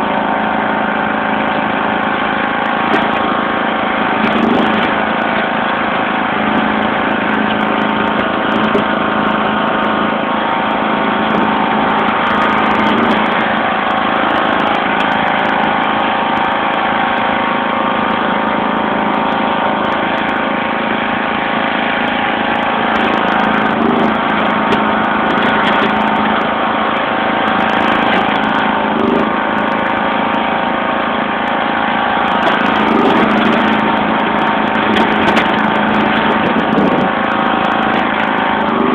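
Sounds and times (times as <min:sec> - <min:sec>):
lawn tractor engine running: 0:00.0 - 0:38.9.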